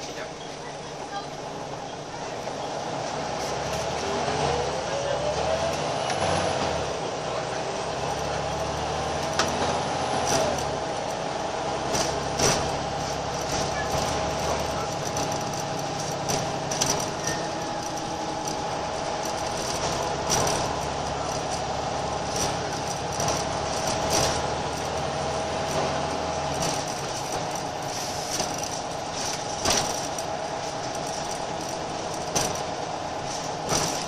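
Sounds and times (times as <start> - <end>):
bus engine droning: 0.0 - 34.0
rattles and knocks of bus body: 5.7 - 34.0.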